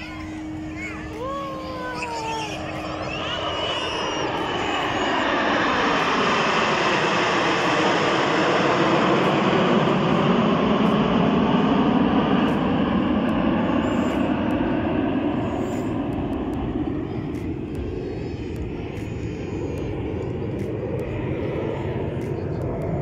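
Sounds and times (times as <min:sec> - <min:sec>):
jet aircraft roar: 0:00.0 - 0:23.0.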